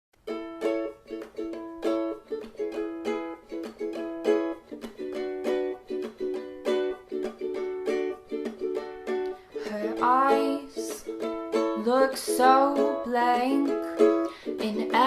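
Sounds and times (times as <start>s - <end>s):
ukulele strumming: 0.2s - 15.0s.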